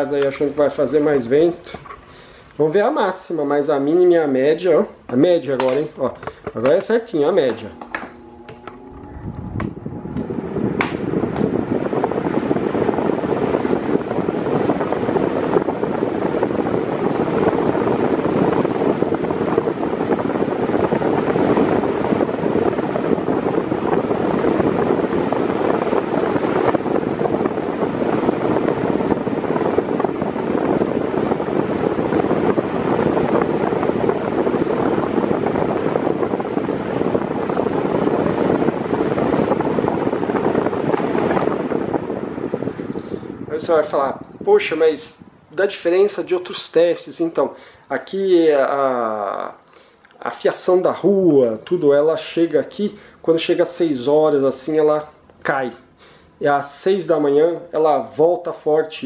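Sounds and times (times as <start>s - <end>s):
electric fan running: 0.0s - 59.0s.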